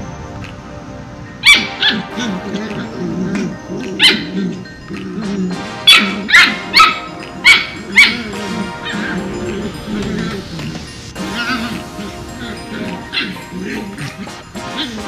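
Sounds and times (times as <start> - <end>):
background music: 0.0 - 15.0
puppies barking: 1.4 - 15.0.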